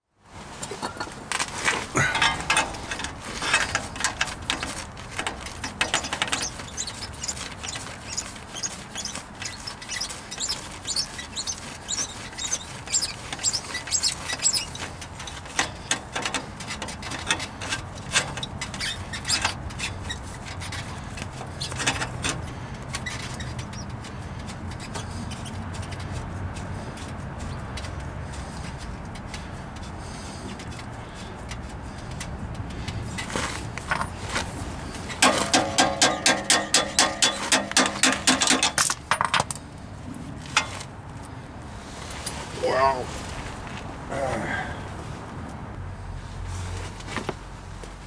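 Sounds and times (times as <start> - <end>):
metal exhaust pipes squeaking: 0.6 - 43.0.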